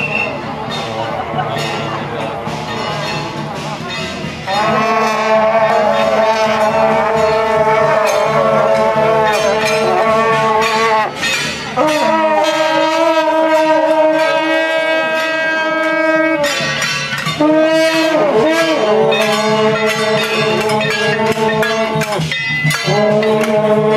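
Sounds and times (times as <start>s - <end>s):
long horns blasting together: 0.0s - 23.9s.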